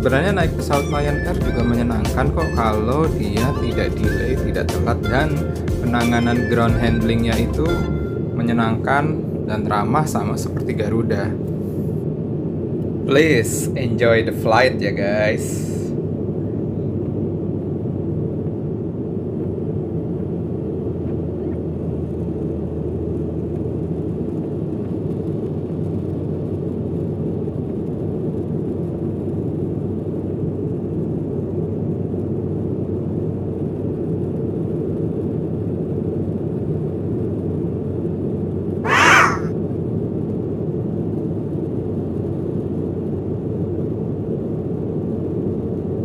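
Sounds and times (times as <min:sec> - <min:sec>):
jet airliner cabin rumble: 0:00.0 - 0:46.0.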